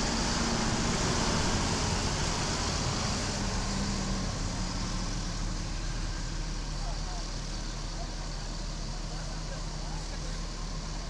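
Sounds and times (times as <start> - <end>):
bus engine running: 0.0 - 11.0
road noise: 0.0 - 11.0.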